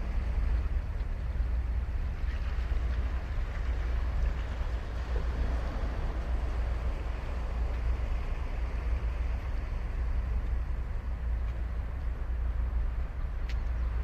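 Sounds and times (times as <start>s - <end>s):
ocean surf on beach: 0.0s - 14.0s.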